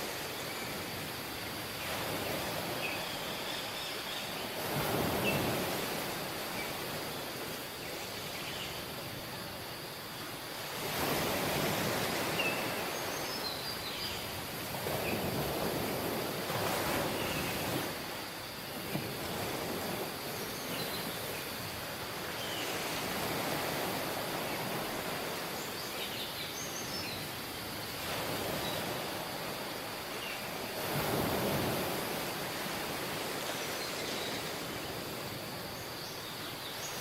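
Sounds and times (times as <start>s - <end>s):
waves washing on beach: 0.0s - 37.0s.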